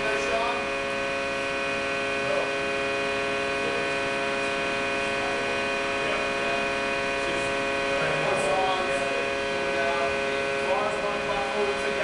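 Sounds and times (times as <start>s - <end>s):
compression testing machine humming: 0.0s - 12.0s.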